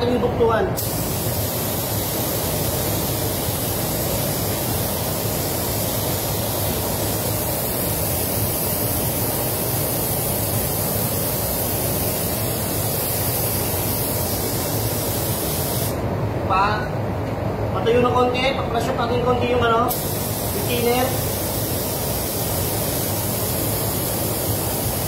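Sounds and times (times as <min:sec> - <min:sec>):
spray booth airflow: 0:00.0 - 0:16.1, 0:19.6 - 0:25.0
spray gun hissing: 0:00.8 - 0:16.0, 0:19.9 - 0:25.0.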